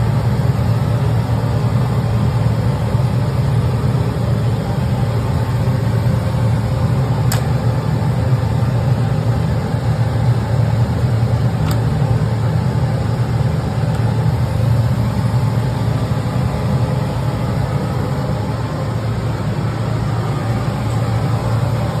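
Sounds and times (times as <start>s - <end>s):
laser cutter humming: 0.0s - 22.0s.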